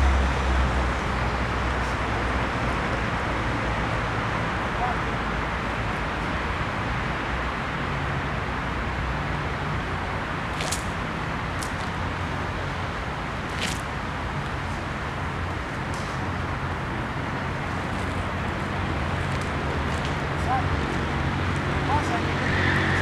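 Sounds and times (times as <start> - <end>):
distant road traffic hum: 0.0 - 23.0.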